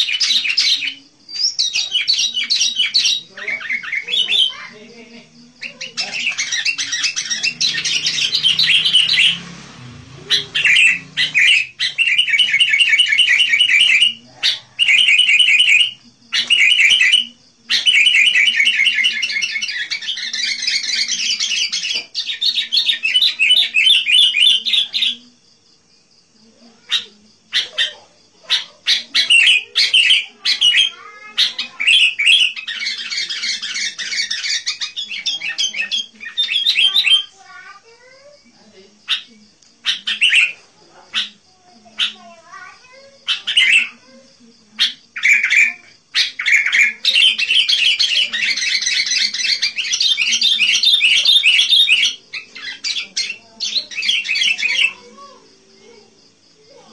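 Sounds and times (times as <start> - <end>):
bulbul singing: 0.0 - 56.9.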